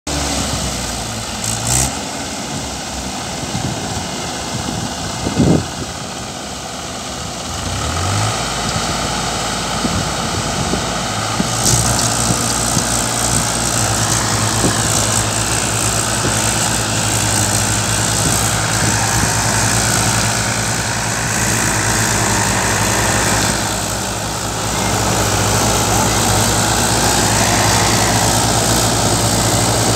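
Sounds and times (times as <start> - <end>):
tractor diesel engines under load: 0.1 - 29.9.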